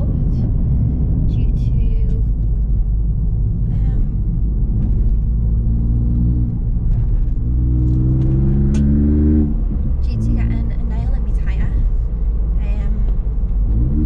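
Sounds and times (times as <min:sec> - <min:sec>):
car engine droning and accelerating: 0:00.0 - 0:14.0.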